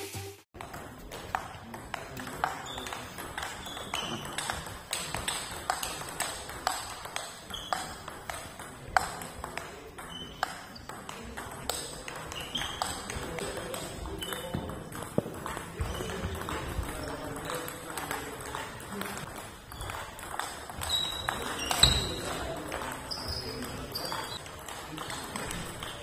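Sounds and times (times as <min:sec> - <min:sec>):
ball bouncing on table: 0:00.6 - 0:26.0
ball clicking off bats: 0:00.6 - 0:26.0.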